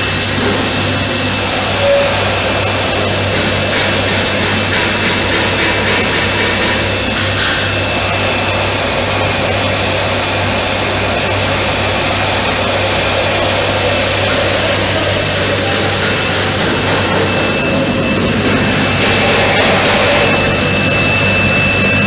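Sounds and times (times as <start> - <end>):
bottle washing machine running: 0.0 - 22.0.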